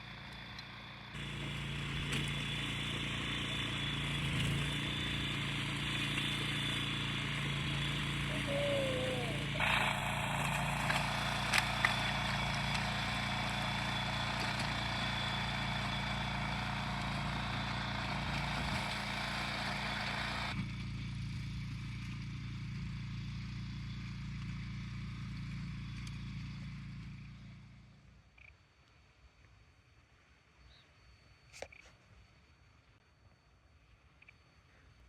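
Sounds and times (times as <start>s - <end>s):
engine drone: 0.0s - 28.1s.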